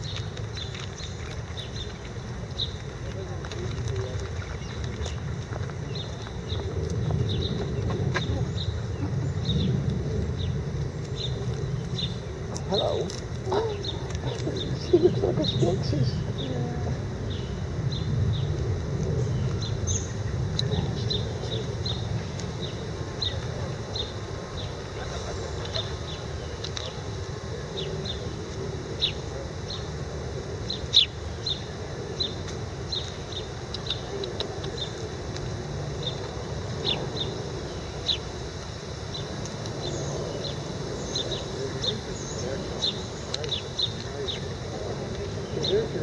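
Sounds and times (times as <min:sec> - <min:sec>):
low steady rumble: 0:00.0 - 0:46.0
small birds chirping: 0:00.0 - 0:46.0.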